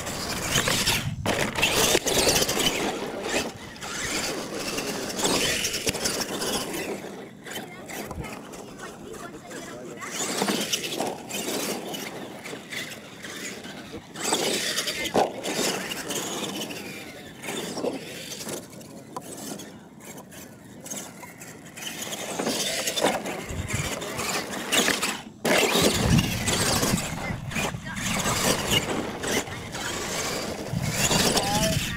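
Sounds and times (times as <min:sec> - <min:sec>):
radio-controlled truck motors revving: 0:00.0 - 0:31.9.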